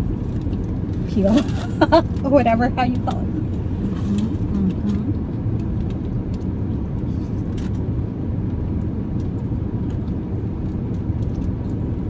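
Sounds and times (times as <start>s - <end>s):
car engine rumble in cabin: 0.0s - 12.0s.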